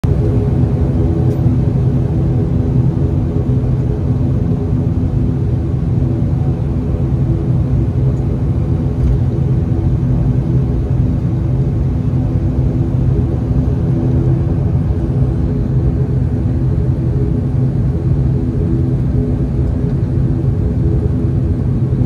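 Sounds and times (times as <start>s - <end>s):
turboprop engines humming: 0.0s - 22.0s.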